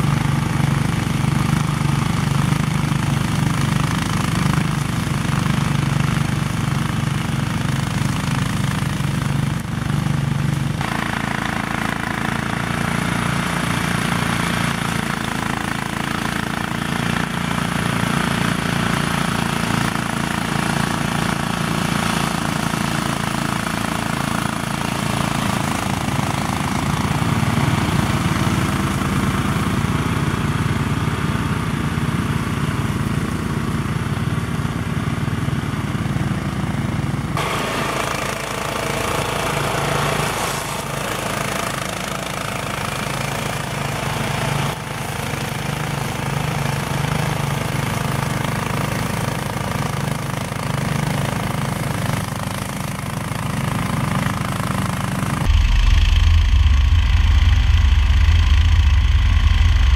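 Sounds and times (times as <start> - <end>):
atv engine running: 0.0 - 59.9
small petrol mower engine running: 0.0 - 59.9.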